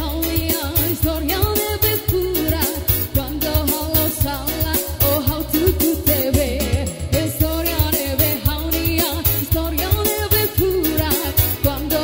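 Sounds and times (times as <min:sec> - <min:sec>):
amplified backing music: 0:00.0 - 0:12.0
woman singing into microphone: 0:00.0 - 0:12.0.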